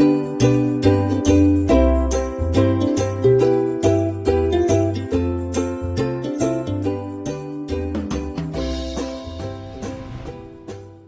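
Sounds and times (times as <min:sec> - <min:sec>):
upbeat music with bell jingles: 0:00.0 - 0:11.0.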